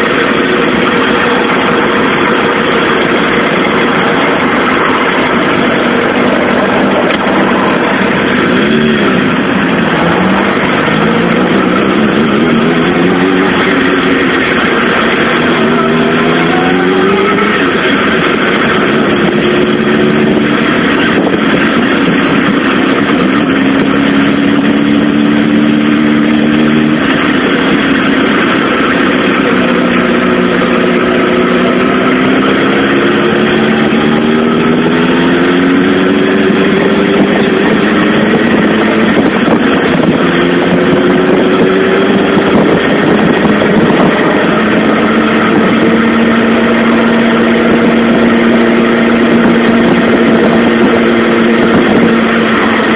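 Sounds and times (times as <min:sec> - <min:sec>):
motorcycle engine revving: 0:00.0 - 0:52.9
wind and rain noise: 0:00.0 - 0:52.9.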